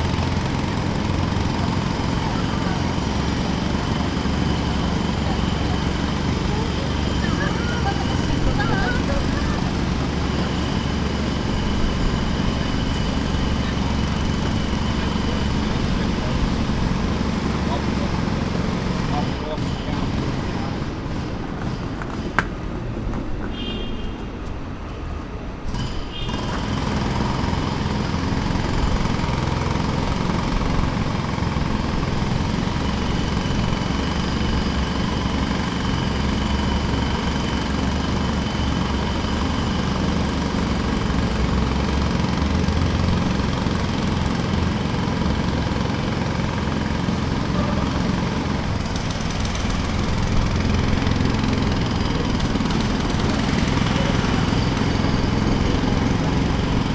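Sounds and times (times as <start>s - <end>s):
jackhammer hammering: 0.0s - 22.7s, 25.6s - 56.9s.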